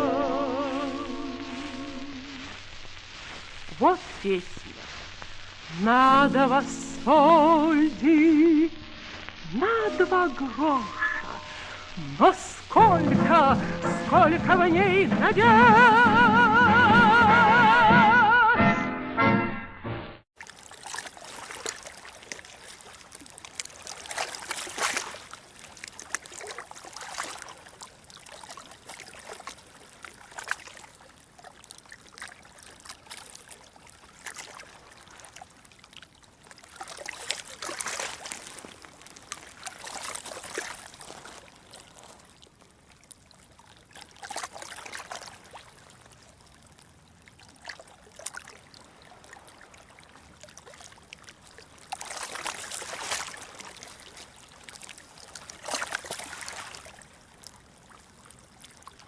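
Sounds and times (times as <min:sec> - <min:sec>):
water running and splashing: 0:00.0 - 0:12.9, 0:20.4 - 0:59.0.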